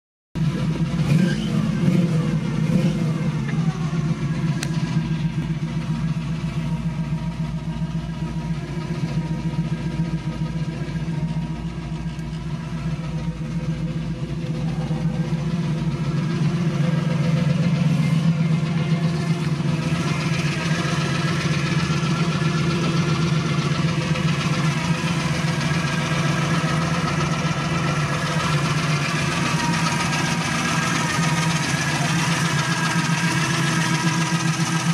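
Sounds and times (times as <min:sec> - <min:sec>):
car engine idling: 0:00.4 - 0:34.9.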